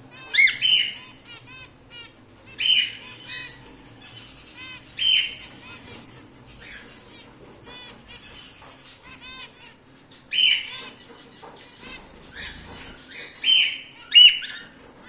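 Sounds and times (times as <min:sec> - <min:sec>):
harsh cockatiel call: 0:00.1 - 0:14.8.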